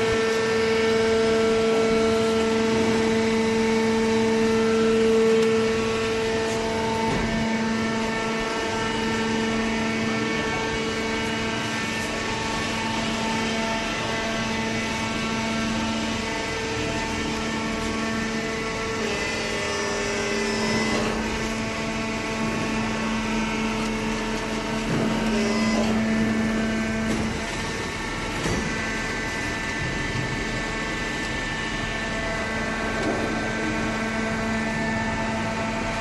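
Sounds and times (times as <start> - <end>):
baler machine hum: 0.0 - 36.0.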